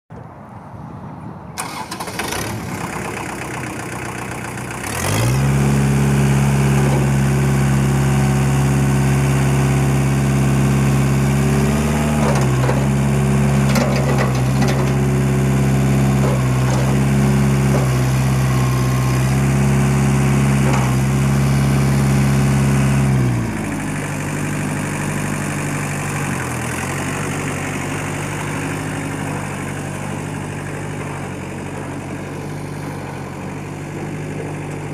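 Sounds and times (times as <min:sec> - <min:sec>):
tractor diesel engine: 0:01.6 - 0:34.9.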